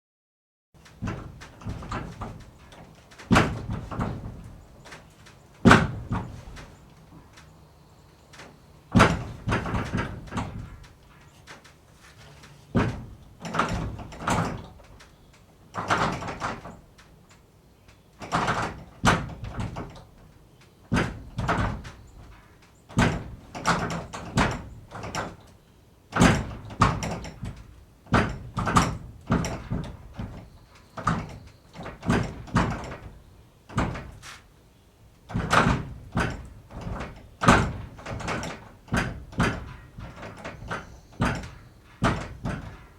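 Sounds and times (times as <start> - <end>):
wooden door rattling and knocking: 0.8 - 7.4, 8.3 - 17.3, 18.2 - 42.9
door banging shut: 0.9 - 6.8, 8.4 - 11.7, 12.7 - 17.0, 18.2 - 20.3, 20.9 - 34.5, 35.2 - 42.9.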